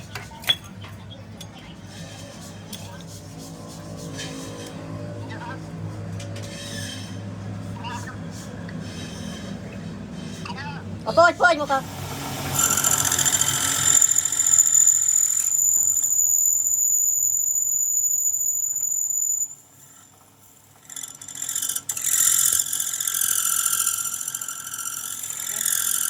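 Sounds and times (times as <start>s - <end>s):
machine squealing on metal: 0.0s - 11.0s, 11.6s - 20.0s, 20.8s - 26.0s.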